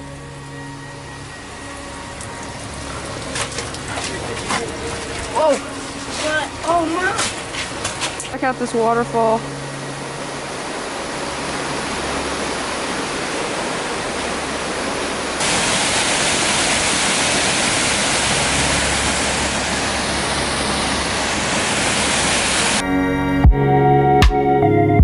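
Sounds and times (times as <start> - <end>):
waterfall rushing: 1.2 - 22.8.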